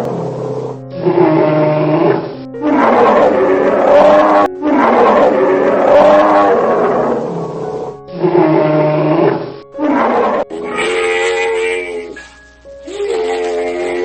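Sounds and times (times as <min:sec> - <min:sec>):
large animal calling: 0:00.2 - 0:12.2.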